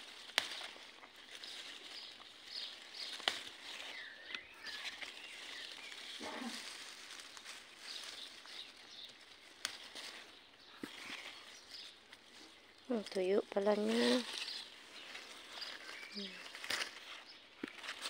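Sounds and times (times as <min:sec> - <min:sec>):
leaves and stems rustling: 0:00.0 - 0:18.0.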